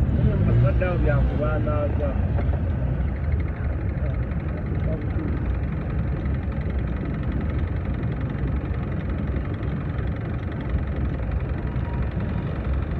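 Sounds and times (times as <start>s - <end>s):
idling traffic engine rumble: 0.0s - 12.9s.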